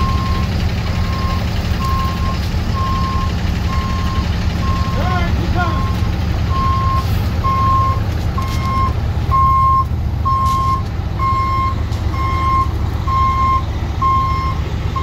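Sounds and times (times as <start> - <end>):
backup alarm beeping: 0.0 - 5.1, 5.7 - 15.0
diesel engine running: 0.0 - 15.0.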